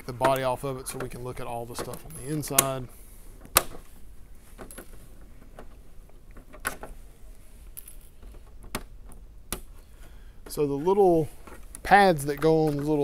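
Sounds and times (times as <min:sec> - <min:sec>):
hard plastic body handling: 0:00.0 - 0:07.5, 0:08.1 - 0:13.0.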